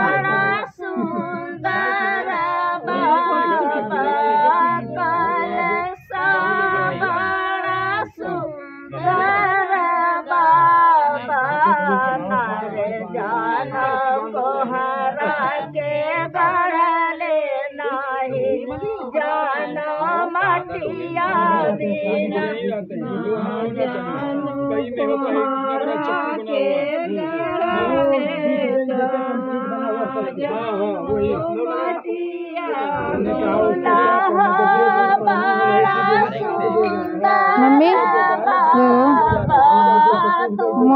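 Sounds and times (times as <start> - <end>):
women singing unaccompanied: 0.0 - 40.9.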